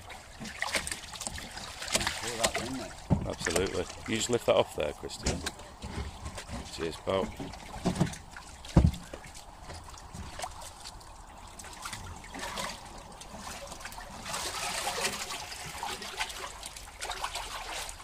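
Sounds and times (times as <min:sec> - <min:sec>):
water splashing in tank: 0:00.0 - 0:18.0
water trickling: 0:00.0 - 0:18.0.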